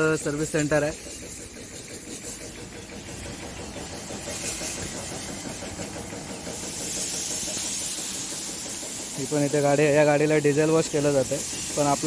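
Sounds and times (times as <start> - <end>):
hissing water spray: 0.0 - 12.0
pulsing pump chug: 0.0 - 12.0.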